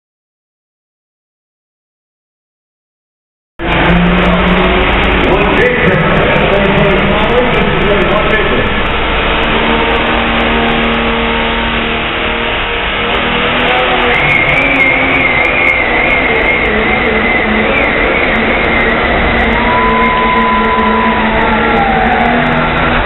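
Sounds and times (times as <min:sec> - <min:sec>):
diesel truck engine revving hard: 0:03.6 - 0:23.0.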